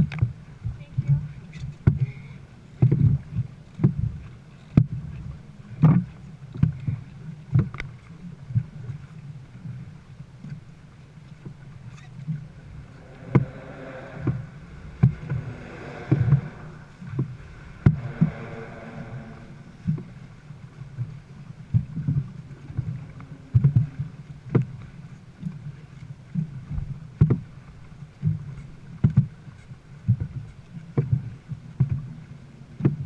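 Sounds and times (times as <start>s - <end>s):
low rumble of water: 0.0s - 33.0s
wind: 0.0s - 33.0s.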